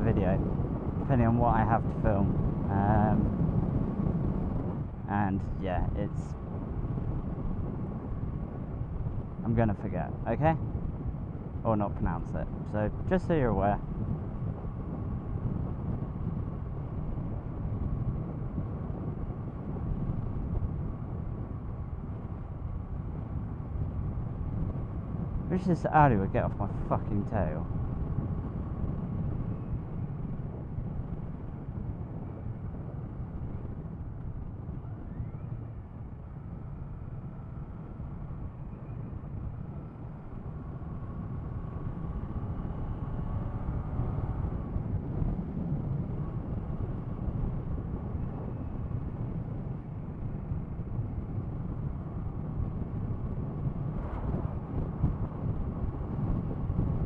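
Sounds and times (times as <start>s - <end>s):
wind and road rush: 0.0s - 57.0s.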